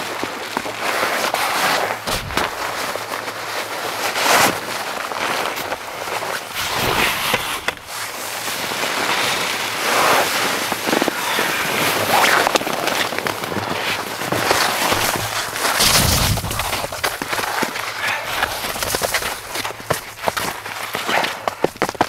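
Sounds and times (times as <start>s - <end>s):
nylon sleeping bag rustling: 0.0s - 21.7s
foam pad being folded: 0.0s - 22.0s.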